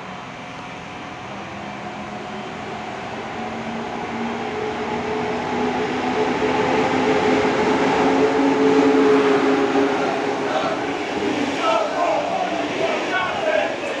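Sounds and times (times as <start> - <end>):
electric locomotive passing: 0.0 - 14.0.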